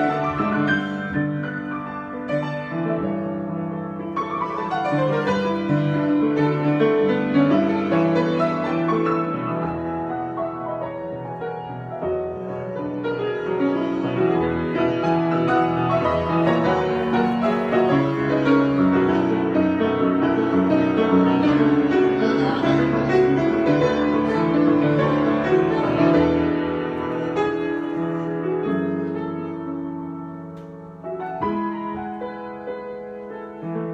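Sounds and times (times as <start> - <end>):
solo piano playing: 0.0 - 33.9.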